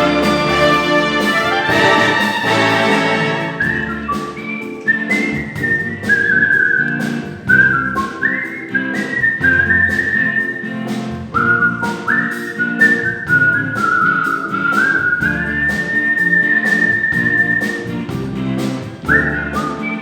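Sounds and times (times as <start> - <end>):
instrumental backing music: 0.0 - 20.0
man whistling a melody: 1.8 - 18.0, 19.1 - 20.0.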